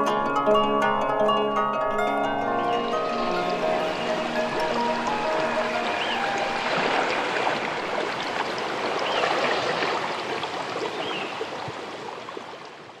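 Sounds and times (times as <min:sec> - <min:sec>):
rushing flowing water: 0:01.0 - 0:13.0.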